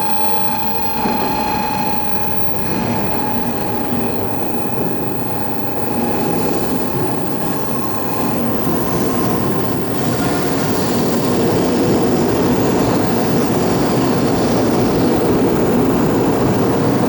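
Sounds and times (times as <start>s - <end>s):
train wheels rumbling: 0.0s - 17.0s
train whine: 0.0s - 17.0s.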